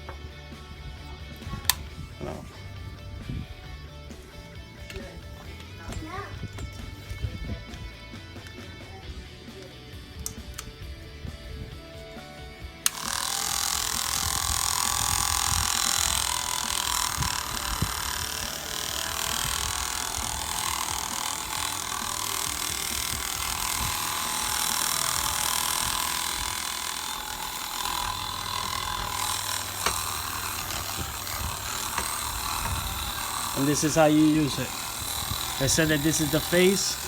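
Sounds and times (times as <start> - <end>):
massager mechanical buzz: 0.0 - 37.0.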